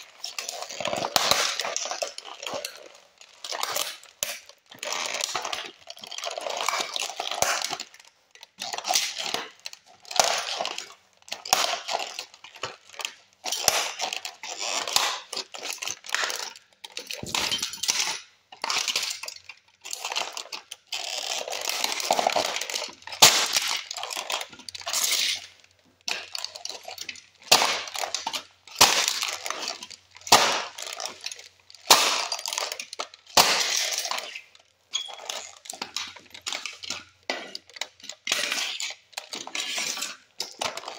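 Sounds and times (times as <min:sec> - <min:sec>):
toy cars crunching underfoot: 0:00.0 - 0:40.9.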